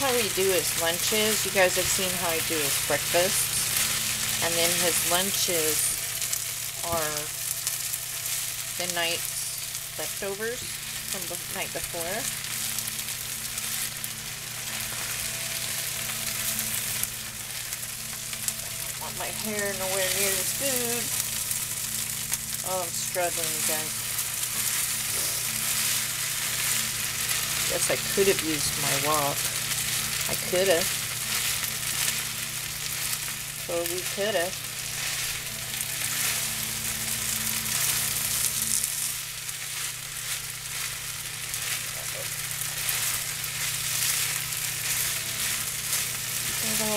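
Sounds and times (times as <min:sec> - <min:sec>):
low steady hum: 0:00.0 - 0:46.9
rice sizzling in a frying pan: 0:00.0 - 0:46.9.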